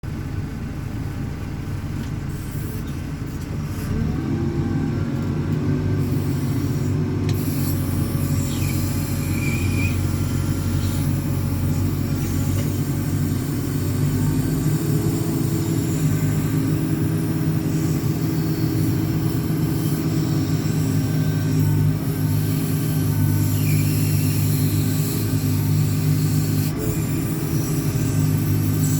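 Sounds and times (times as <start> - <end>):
diesel engine revving: 0.0 - 28.9.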